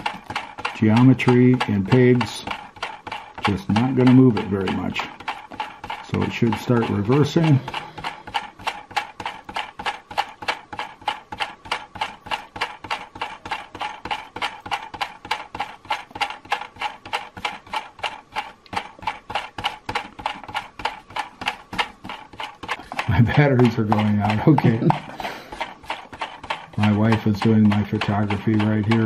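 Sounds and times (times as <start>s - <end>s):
toy gear drive clicking: 0.0s - 29.0s.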